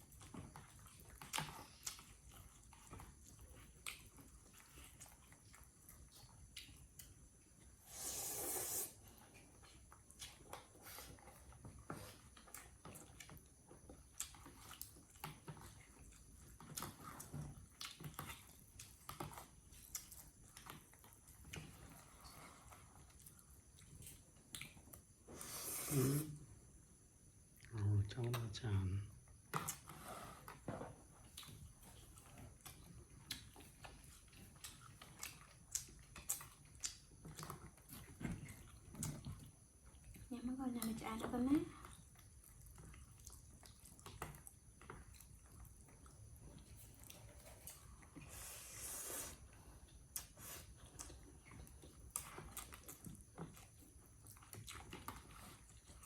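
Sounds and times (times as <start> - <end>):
monkey chewing food: 0.0 - 7.8, 9.0 - 25.6, 29.4 - 56.0.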